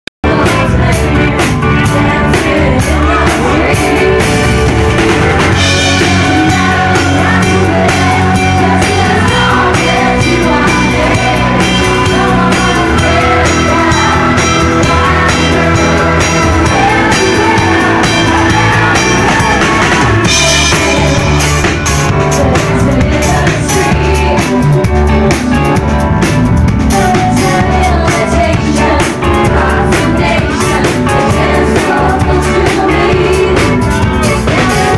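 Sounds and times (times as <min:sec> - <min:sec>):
people singing: 0:00.2 - 0:25.9, 0:26.9 - 0:34.9
drum kit beat: 0:00.2 - 0:34.9
live band playing: 0:00.2 - 0:34.9.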